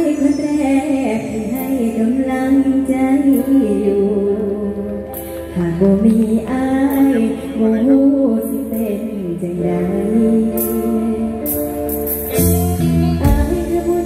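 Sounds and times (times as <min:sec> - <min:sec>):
girl singing into microphone: 0:00.0 - 0:12.0, 0:12.9 - 0:14.0.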